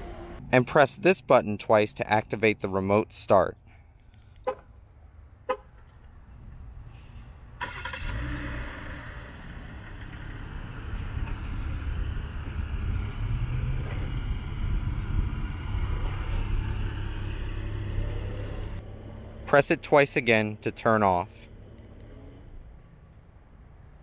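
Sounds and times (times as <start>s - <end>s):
car engine starting and idling: 0.0s - 2.3s, 5.5s - 24.0s.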